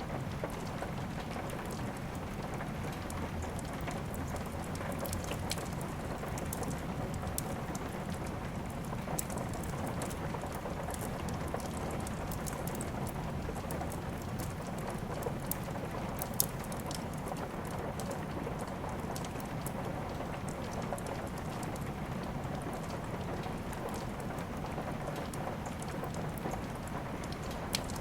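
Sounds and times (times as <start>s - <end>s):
steady rain: 0.0s - 28.0s
wood fire crackling: 0.3s - 28.0s.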